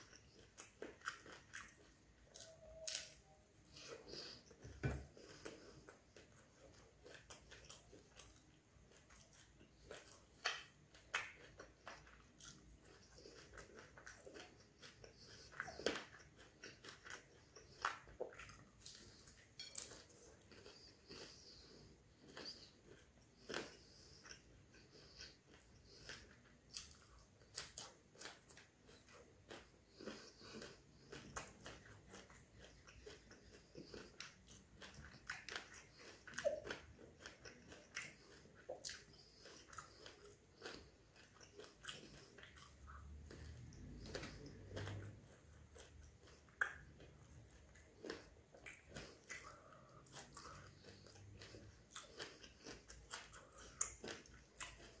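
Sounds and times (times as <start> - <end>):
crunching fried food: 0.0 - 55.0.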